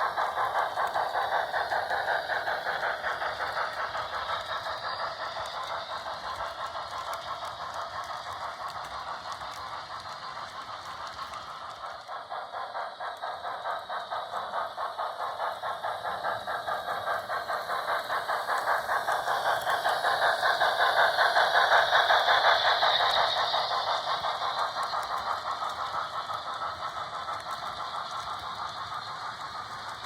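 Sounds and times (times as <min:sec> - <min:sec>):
model steam locomotive chuffing: 0:00.0 - 0:30.0
train clattering on track: 0:00.0 - 0:30.0.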